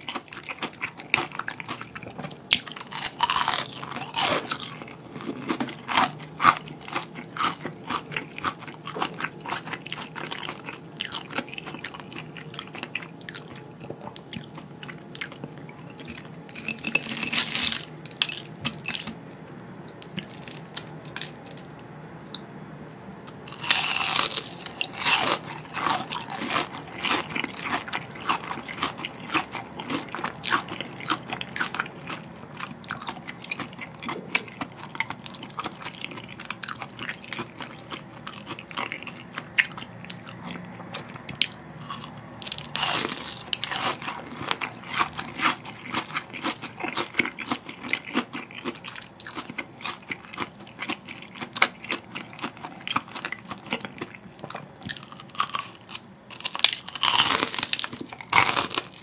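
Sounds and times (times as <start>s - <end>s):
crunchy bites: 0.0s - 13.5s, 23.5s - 39.9s, 41.4s - 59.0s
crackly chewing: 0.0s - 22.4s, 23.2s - 59.0s.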